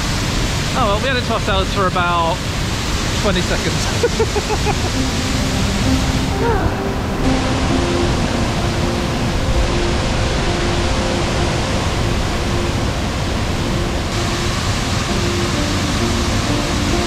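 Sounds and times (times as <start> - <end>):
waterfall rushing into pool: 0.0 - 17.0.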